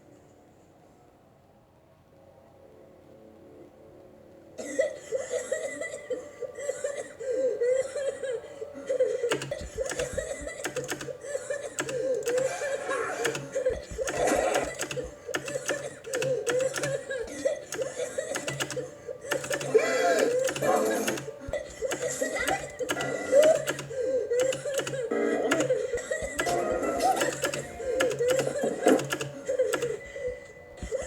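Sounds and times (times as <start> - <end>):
people laughing: 4.6 - 31.0.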